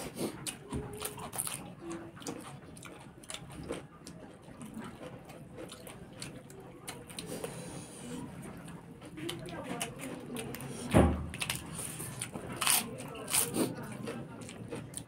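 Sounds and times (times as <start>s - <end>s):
chewing and lip-smacking: 0.0s - 15.0s.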